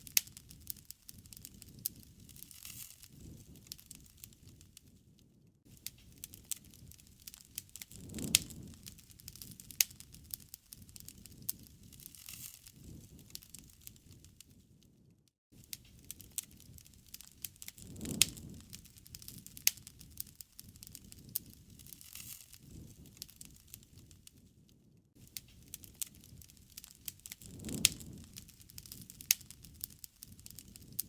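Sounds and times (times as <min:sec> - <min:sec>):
low rush of flame: 0:00.0 - 0:15.0, 0:15.6 - 0:31.0
wood fire crackling and popping: 0:00.0 - 0:31.0.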